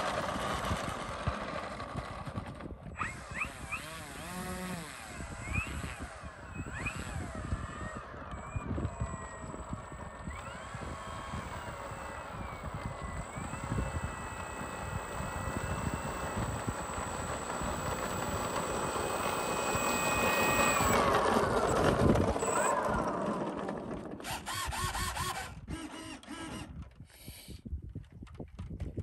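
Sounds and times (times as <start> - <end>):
model plane electric motor whining: 3.0 - 27.0.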